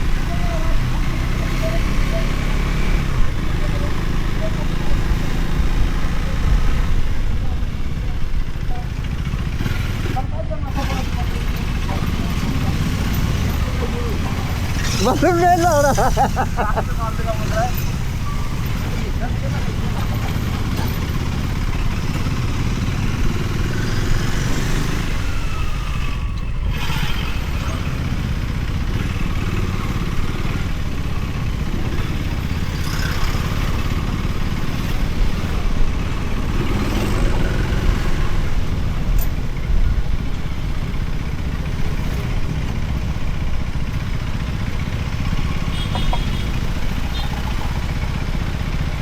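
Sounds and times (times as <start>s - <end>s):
motorcycle engine running: 0.0s - 49.0s
road and wind rumble: 0.0s - 49.0s.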